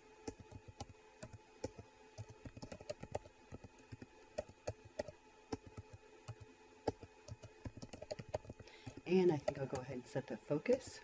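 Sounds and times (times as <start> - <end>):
computer keyboard typing: 0.2 - 10.0, 10.6 - 11.0.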